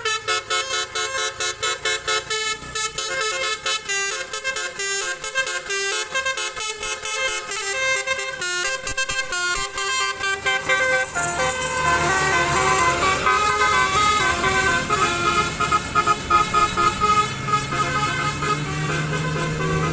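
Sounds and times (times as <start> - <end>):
musical vehicle horn tune: 0.0 - 19.9.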